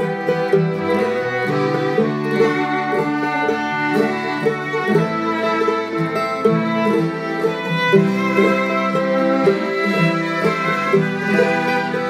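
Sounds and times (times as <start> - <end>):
fiddle playing held notes: 0.0 - 12.0
plucked guitar: 0.0 - 12.0.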